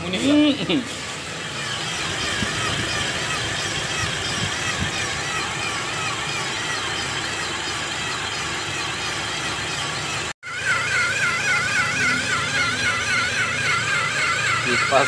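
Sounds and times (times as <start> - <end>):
car engine running: 0.0 - 15.0
warbling pulley whine: 0.0 - 15.0.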